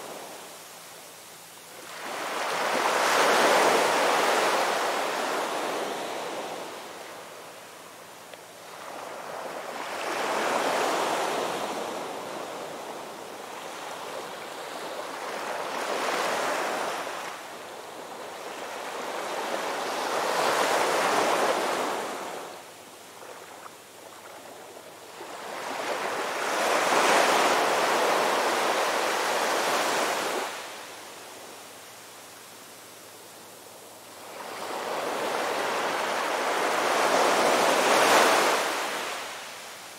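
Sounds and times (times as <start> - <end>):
waves breaking on shore: 1.8 - 7.3, 8.6 - 32.6, 34.0 - 39.9.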